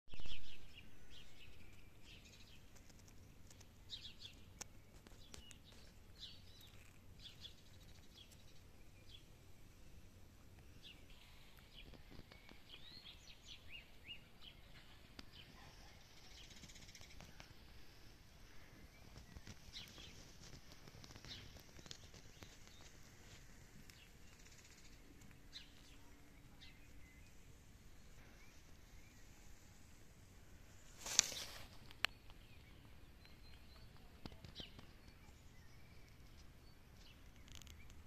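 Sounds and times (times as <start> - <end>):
songbirds chirping: 0.1 - 38.0.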